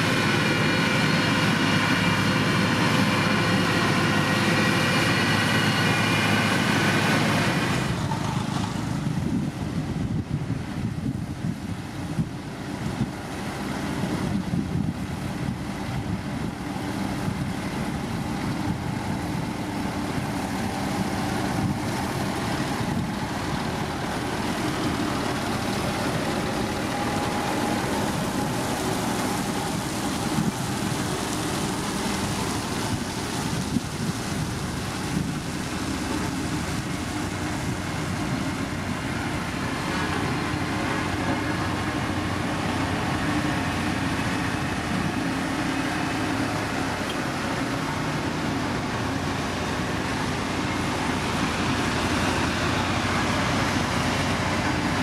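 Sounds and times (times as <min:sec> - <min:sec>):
diesel engine of heavy machinery: 0:00.0 - 0:55.0.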